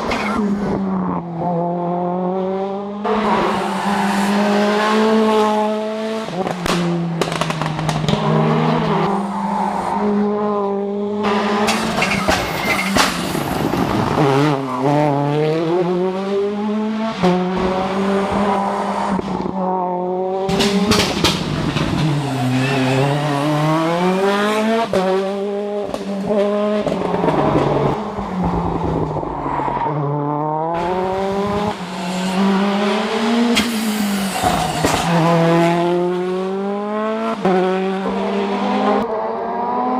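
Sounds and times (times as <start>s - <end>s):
rally car engine revving hard: 1.4s - 9.1s, 13.2s - 29.2s, 30.1s - 39.9s.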